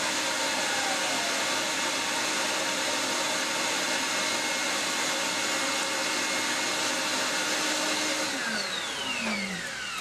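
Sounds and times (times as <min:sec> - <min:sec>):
table saw running: 0:00.0 - 0:10.0.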